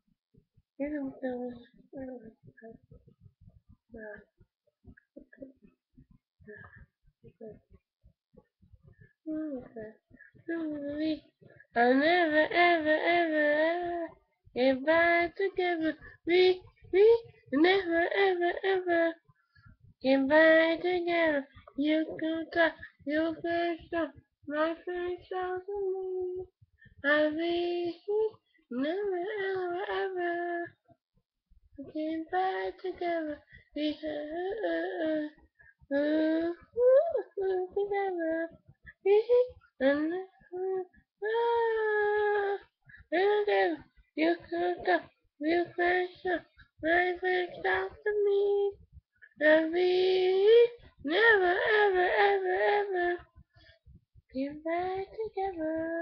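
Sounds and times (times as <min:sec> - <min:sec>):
girl singing unaccompanied: 0:00.8 - 0:02.8, 0:09.3 - 0:19.2, 0:20.0 - 0:30.8, 0:31.8 - 0:48.8, 0:49.4 - 0:53.3, 0:54.4 - 0:56.0.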